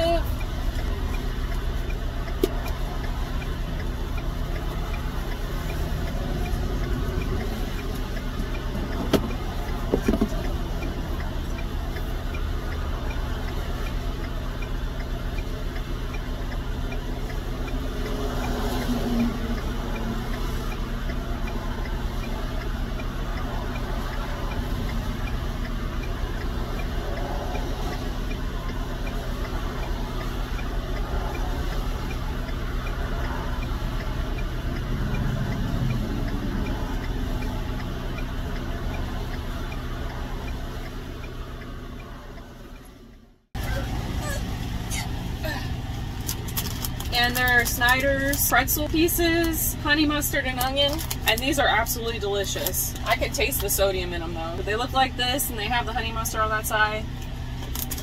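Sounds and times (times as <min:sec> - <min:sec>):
truck engine humming: 0:00.0 - 0:58.0.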